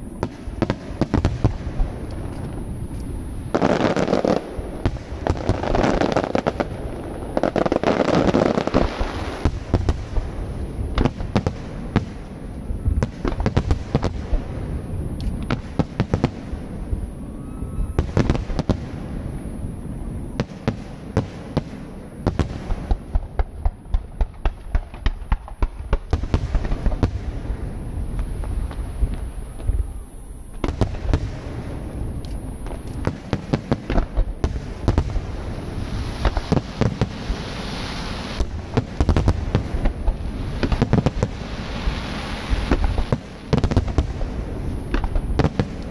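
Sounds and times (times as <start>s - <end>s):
crackling rumble: 0.0s - 45.9s
sharp fireworks bangs: 0.0s - 45.9s.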